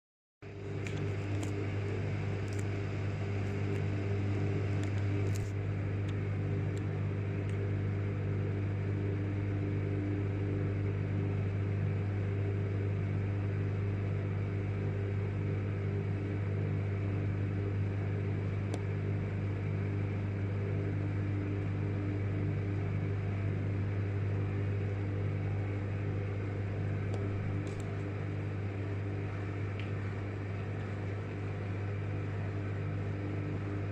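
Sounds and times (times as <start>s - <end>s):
microwave oven humming: 0.4s - 33.9s.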